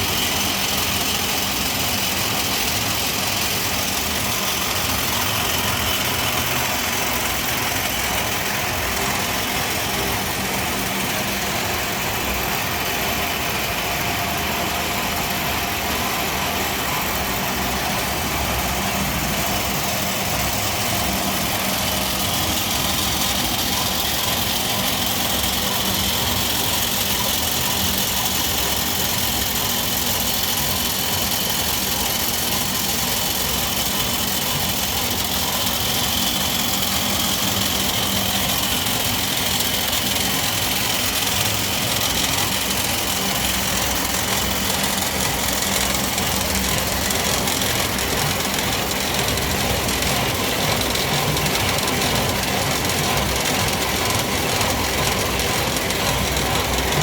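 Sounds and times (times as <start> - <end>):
pellet mill machine drone: 0.0 - 57.0.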